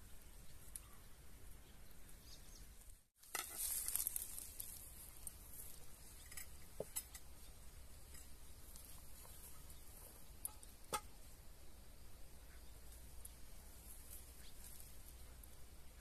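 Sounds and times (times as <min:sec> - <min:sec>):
rustle: 0:00.0 - 0:16.0.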